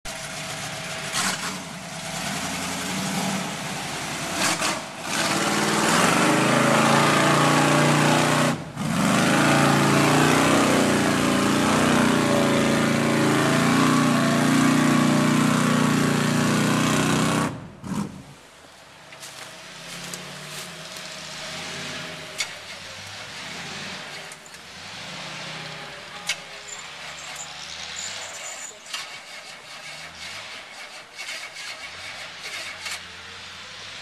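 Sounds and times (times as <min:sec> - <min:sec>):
truck engine revving in mud: 0:00.1 - 0:18.4, 0:19.4 - 0:34.0.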